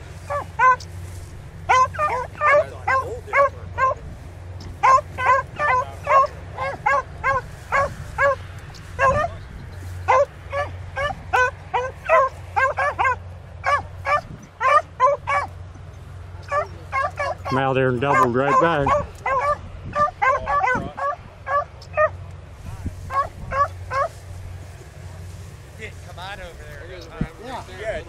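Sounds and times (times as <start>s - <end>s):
dogs baying: 0.0s - 22.3s, 23.0s - 25.0s.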